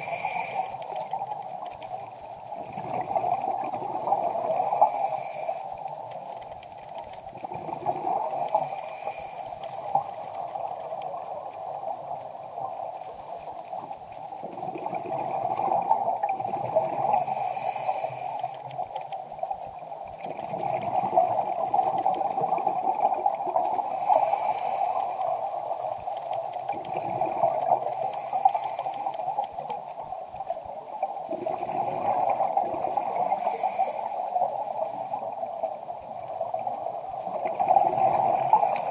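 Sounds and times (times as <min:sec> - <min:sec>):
underwater hiss: 0:00.0 - 0:01.9, 0:02.6 - 0:38.9
water gurgling: 0:00.0 - 0:38.9.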